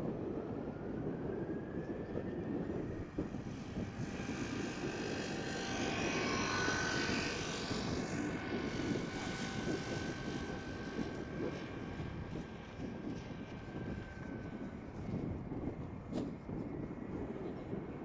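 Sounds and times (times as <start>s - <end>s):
high jet engine whine: 0.0s - 18.0s
jet engine rumble: 0.0s - 18.0s.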